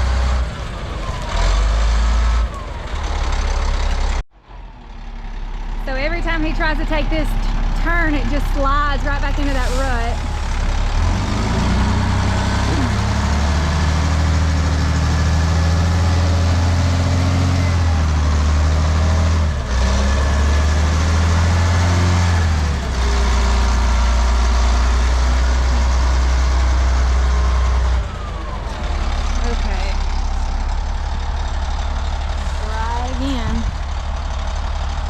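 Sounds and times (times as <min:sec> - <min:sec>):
diesel truck engine under load: 0:00.0 - 0:35.0.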